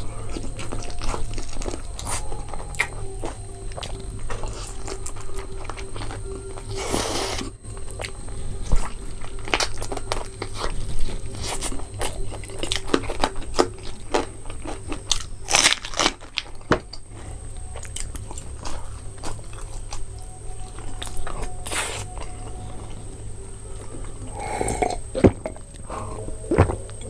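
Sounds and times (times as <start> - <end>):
crunching bites and chewing: 0.0 - 23.1
steady low hum: 0.0 - 27.0.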